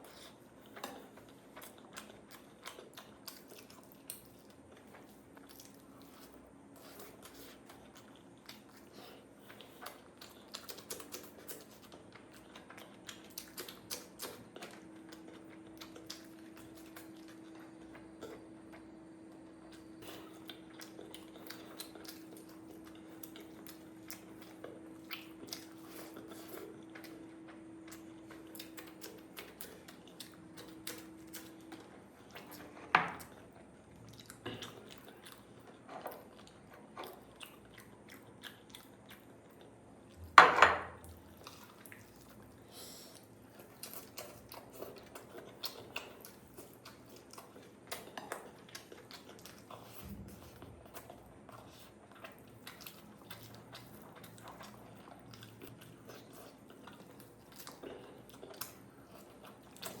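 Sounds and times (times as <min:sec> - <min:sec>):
person chewing: 0:00.0 - 1:00.0.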